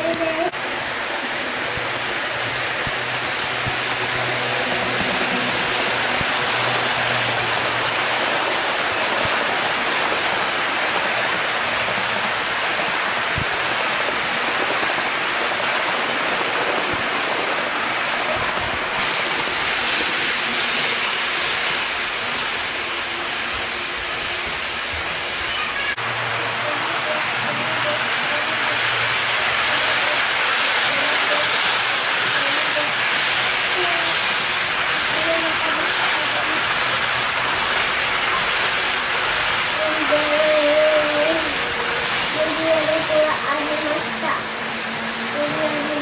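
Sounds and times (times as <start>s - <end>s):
model train wheels rumbling on rails: 0.0s - 46.0s.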